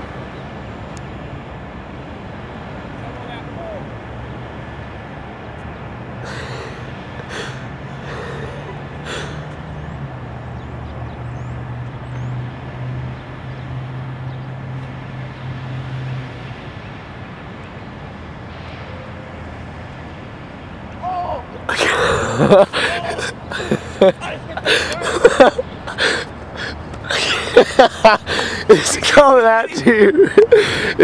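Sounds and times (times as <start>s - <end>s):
traffic noise: 0.0s - 31.0s
vehicle engine humming: 0.0s - 31.0s.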